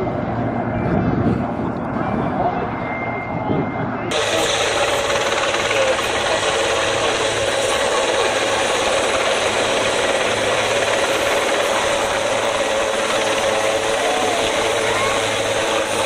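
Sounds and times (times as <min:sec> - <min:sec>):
helicopter rotor beat: 0:00.0 - 0:16.0
helicopter whine: 0:00.0 - 0:16.0.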